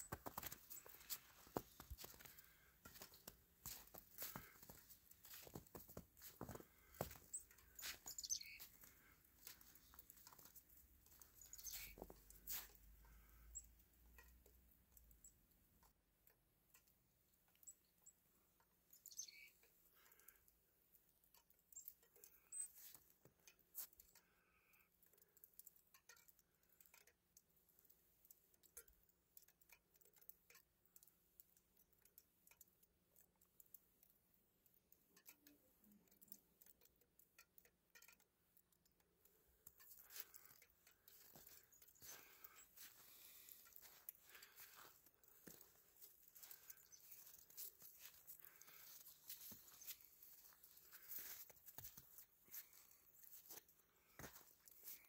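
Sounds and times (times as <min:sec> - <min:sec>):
faint soft ticks and patter: 0:00.0 - 0:55.0.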